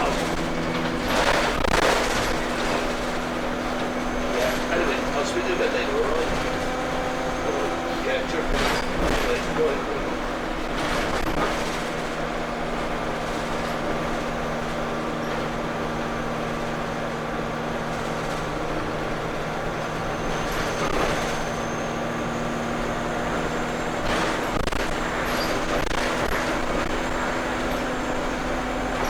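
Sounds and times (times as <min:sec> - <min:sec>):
bus diesel engine humming: 0:00.0 - 0:29.0
faint turbo whine: 0:00.0 - 0:29.0
road and body noise: 0:00.0 - 0:29.0.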